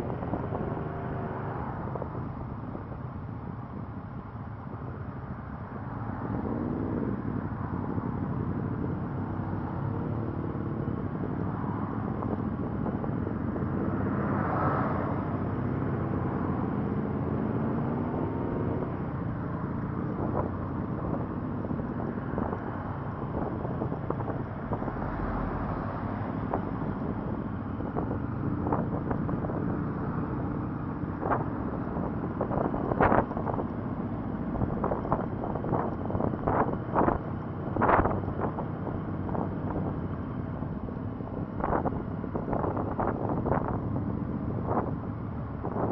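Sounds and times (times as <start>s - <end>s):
wind rush: 6.0s - 40.6s, 41.2s - 45.9s.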